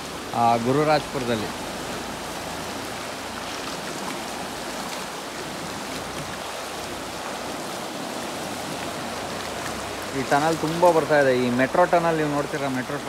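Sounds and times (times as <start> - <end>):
turbulent water rushing: 0.0 - 13.0.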